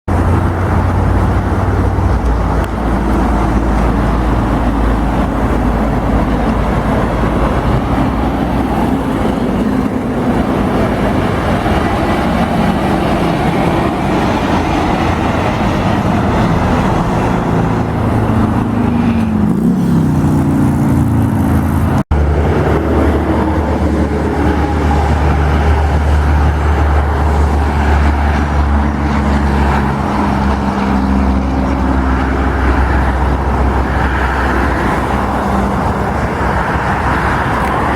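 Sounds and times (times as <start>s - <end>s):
deep engine drone: 0.1s - 37.9s
truck diesel engine running: 0.1s - 37.9s.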